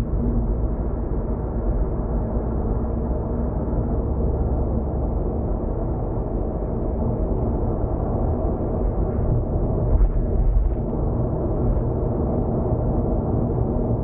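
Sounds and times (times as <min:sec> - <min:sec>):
road and tyre rumble inside car: 0:00.0 - 0:14.0.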